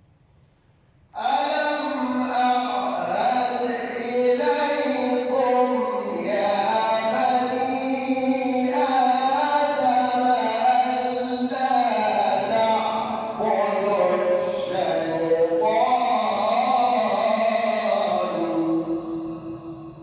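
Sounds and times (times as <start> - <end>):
man chanting melodically: 1.2 - 20.0.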